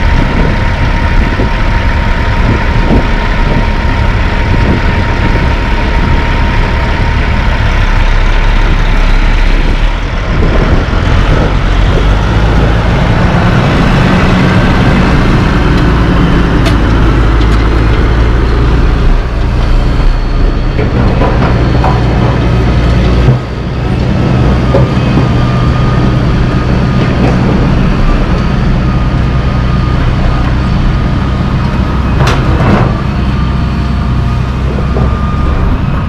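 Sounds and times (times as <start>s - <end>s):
diesel truck engine driving past: 0.0s - 36.0s.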